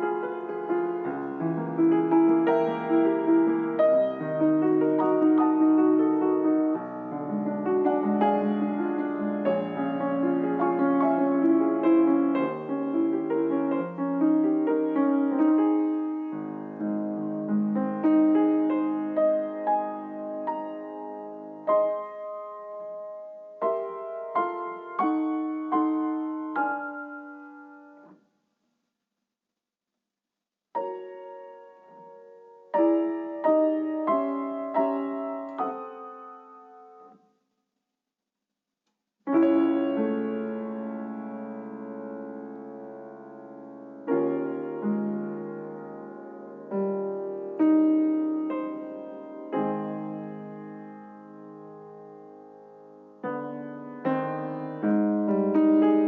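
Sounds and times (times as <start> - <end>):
gentle piano music: 0.0 - 28.2, 30.8 - 37.2, 39.3 - 56.0.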